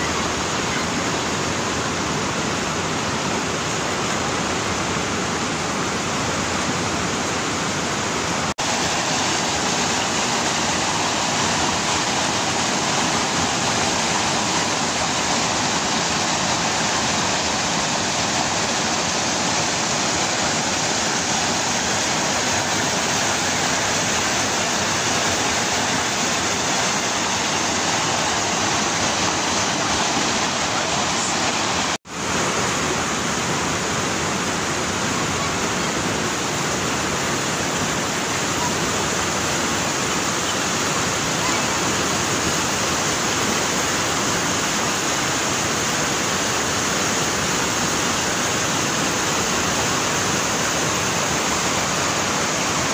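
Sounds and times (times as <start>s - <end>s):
waterfall and rushing river: 0.0s - 52.9s.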